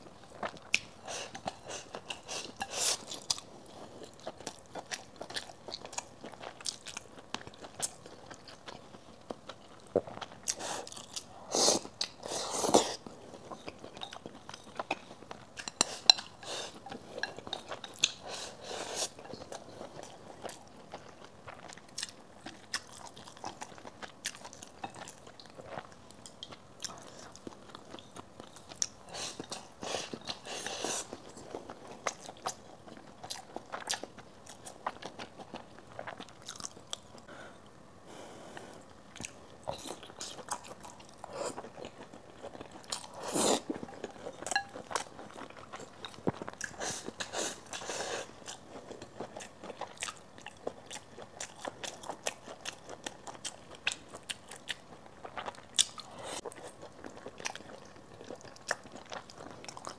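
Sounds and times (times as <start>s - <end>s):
person chewing food: 0.2s - 37.3s, 38.4s - 59.9s.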